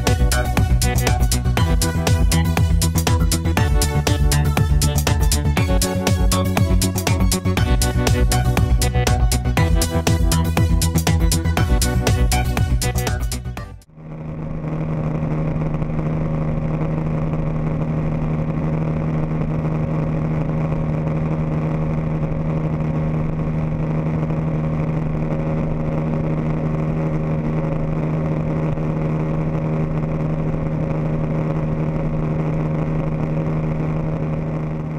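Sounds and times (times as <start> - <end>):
outboard motor low hum: 0.0 - 34.9.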